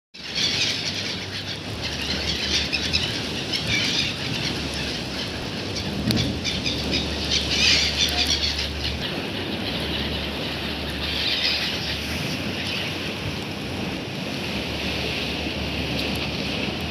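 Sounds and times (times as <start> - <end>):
gulls calling: 0.2 - 16.9
low rumble of wind: 0.2 - 16.9.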